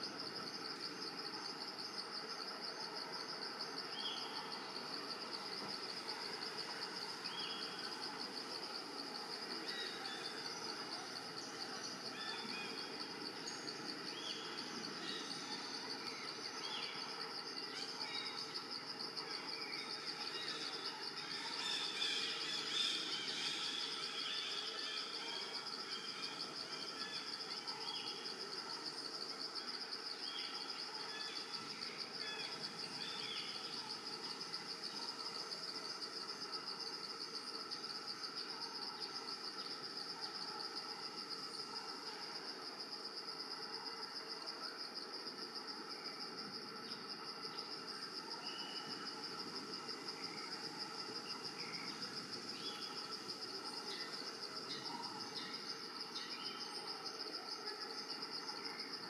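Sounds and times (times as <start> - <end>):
insect chorus pulsing trill: 0.0 - 59.0.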